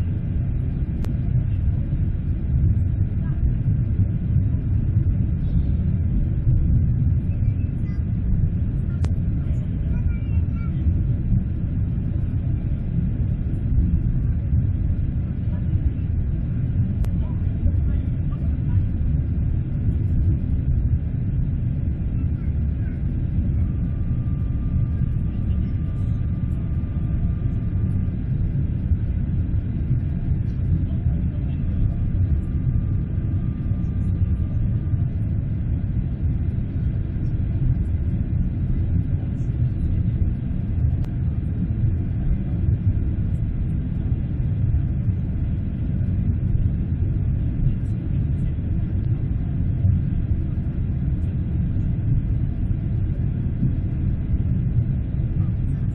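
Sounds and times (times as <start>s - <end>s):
distant jet engines rumbling: 0.0s - 55.8s
faint high jet whine: 0.0s - 55.9s.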